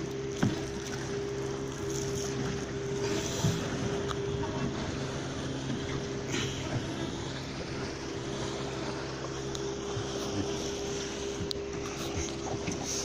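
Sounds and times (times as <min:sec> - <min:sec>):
boat motor running: 0:00.0 - 0:13.0
rush of wind and water: 0:00.0 - 0:13.0.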